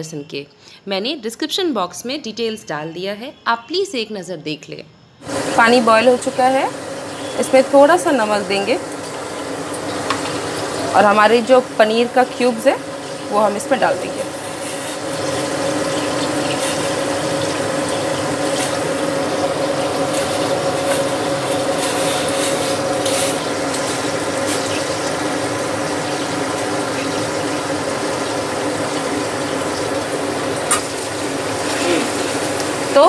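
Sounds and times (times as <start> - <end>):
onions sizzling in hot oil: 5.2 - 33.0
steady hum: 5.2 - 33.0
water boiling in a pot: 5.2 - 33.0.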